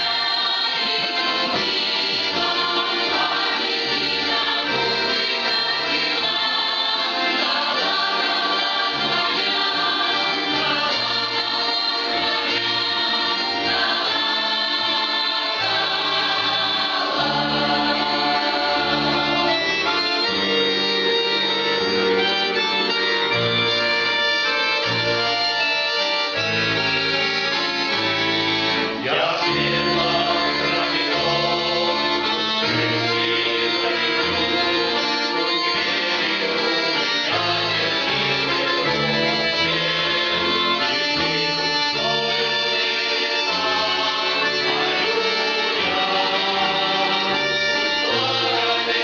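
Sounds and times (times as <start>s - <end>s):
accordion melody: 0.0s - 49.0s
choir singing: 0.0s - 49.0s.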